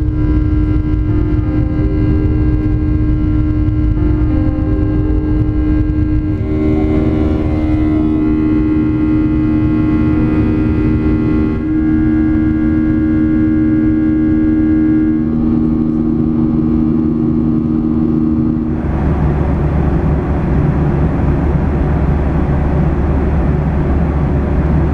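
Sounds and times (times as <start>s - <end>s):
engine and airflow rushing: 0.0s - 24.9s
jet engine cabin drone: 0.0s - 24.9s.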